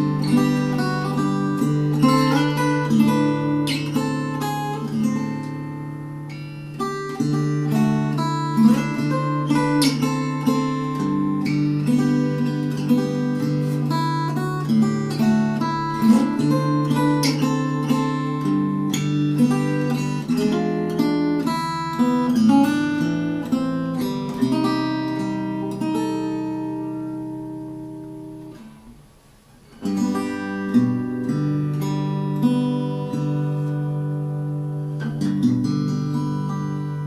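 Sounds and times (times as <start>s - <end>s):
fingerpicked acoustic guitar: 0.0s - 37.0s.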